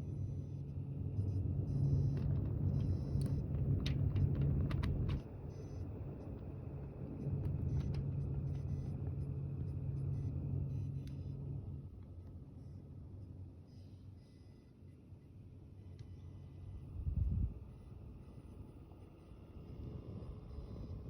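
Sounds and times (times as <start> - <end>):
computer low buzzing hum: 0.0 - 21.0.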